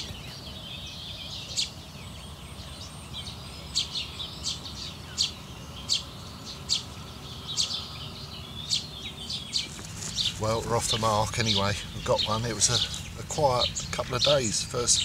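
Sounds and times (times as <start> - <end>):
bird chirping sharply: 0.0 - 15.0
birds twittering: 0.0 - 15.0.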